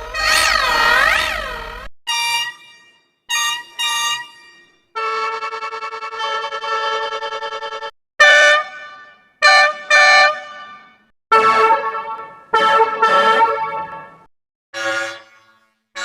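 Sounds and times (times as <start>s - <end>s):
bus horn blasts: 0.0s - 16.0s.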